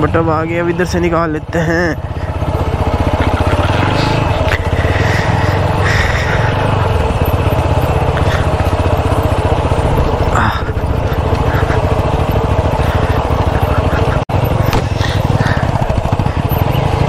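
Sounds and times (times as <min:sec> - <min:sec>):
motorcycle engine chugging: 0:00.0 - 0:17.0.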